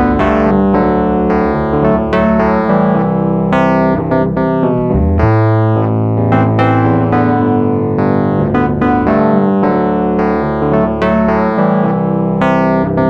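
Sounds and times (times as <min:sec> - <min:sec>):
long held bass notes: 0:00.0 - 0:13.0.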